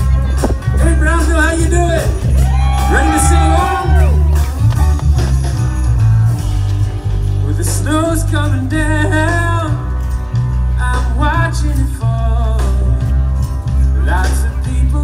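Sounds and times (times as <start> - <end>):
guitar: 0.0 - 15.0
steady bass: 0.0 - 15.0.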